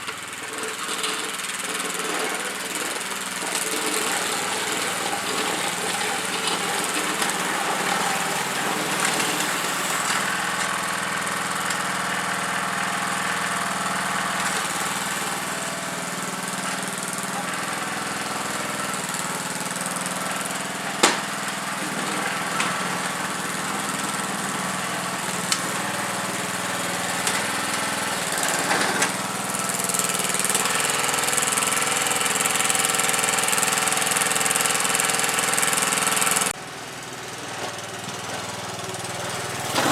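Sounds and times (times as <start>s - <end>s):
small engine running under load: 0.0s - 39.9s.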